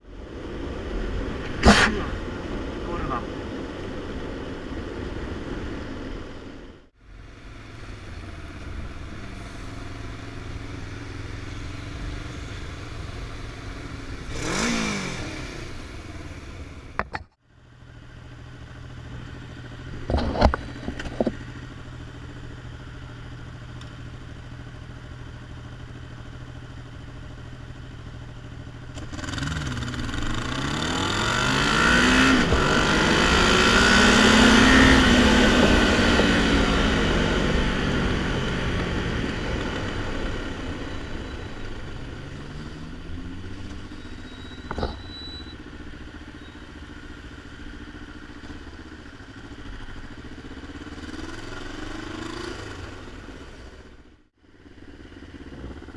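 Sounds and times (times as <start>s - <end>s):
road noise: 0.0s - 55.9s
motorcycle engine running: 7.0s - 55.9s.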